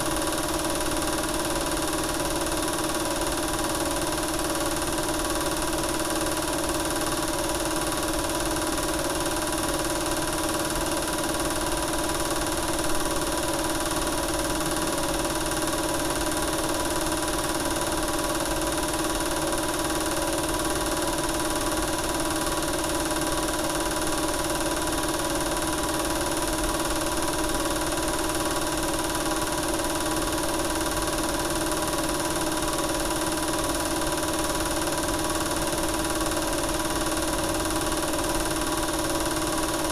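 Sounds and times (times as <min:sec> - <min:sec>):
film projector motor hum and whir: 0:00.0 - 0:39.9.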